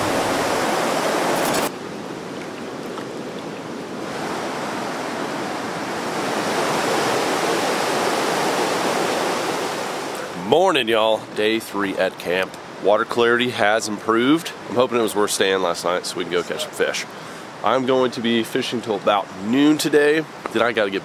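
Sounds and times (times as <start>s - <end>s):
river rushing over rocks: 0.0s - 17.9s.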